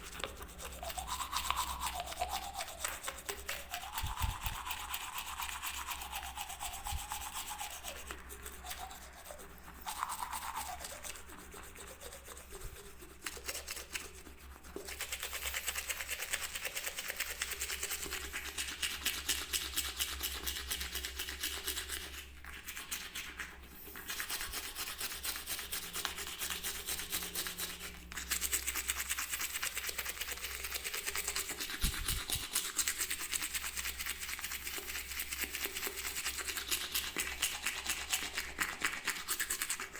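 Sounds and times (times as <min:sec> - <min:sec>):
toothbrush scrubbing: 0:00.0 - 0:39.9.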